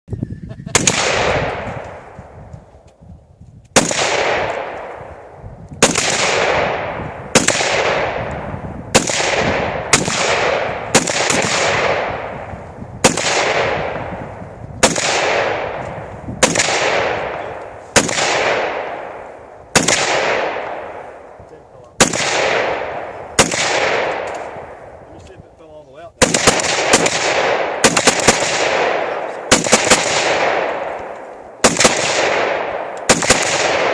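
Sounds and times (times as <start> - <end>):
gunshots with rolling echo: 0.7 - 2.8, 3.8 - 33.9.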